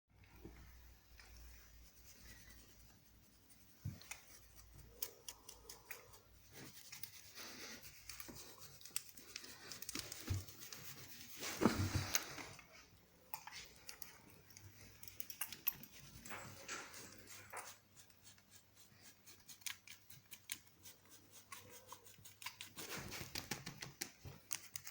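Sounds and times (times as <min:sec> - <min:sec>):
rustling: 0:00.2 - 0:24.9.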